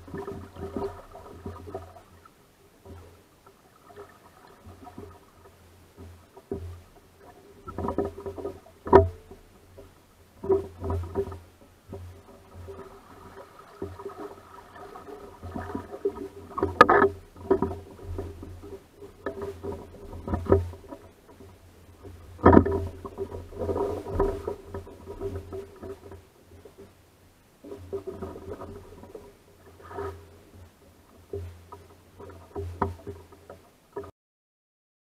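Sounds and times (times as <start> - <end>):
water lapping at hull: 0.0 - 34.1
boat knocks and clatter: 4.7 - 27.0, 27.8 - 34.1.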